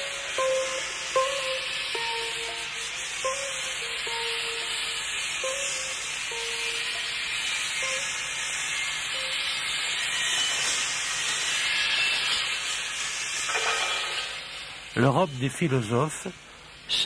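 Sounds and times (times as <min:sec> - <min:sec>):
swishing hiss: 0:00.0 - 0:17.0.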